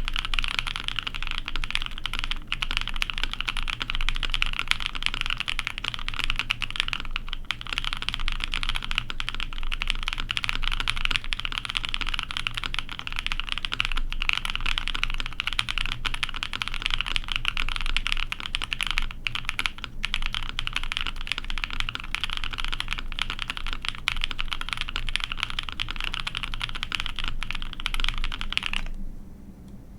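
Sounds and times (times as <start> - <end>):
fast typing on mechanical keyboard: 0.0 - 29.0.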